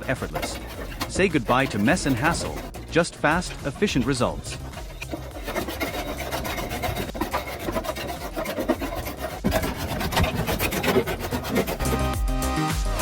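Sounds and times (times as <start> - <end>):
wood chipper shredding branches: 0.0 - 11.9.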